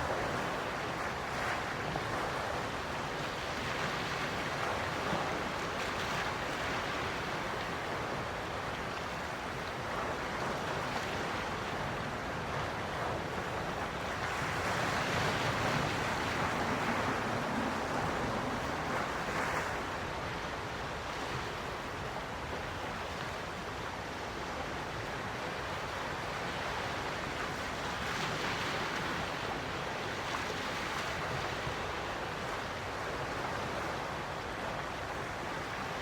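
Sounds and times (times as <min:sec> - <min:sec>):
sea waves washing ashore: 0:00.0 - 0:36.0.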